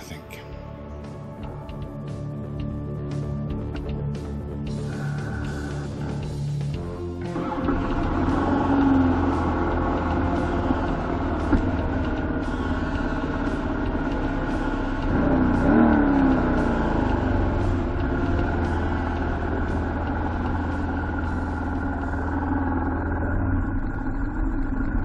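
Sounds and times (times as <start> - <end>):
motorcycle engine running: 1.2 - 25.0.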